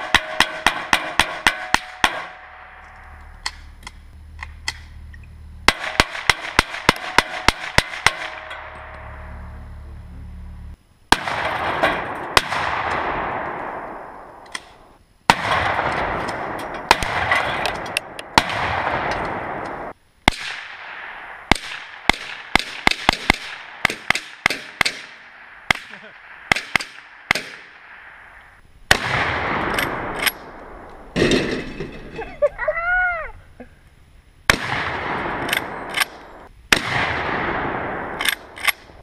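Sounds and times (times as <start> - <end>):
gunshots with echoing tails: 0.0 - 3.6, 5.7 - 9.4, 11.1 - 31.6, 34.5 - 39.0.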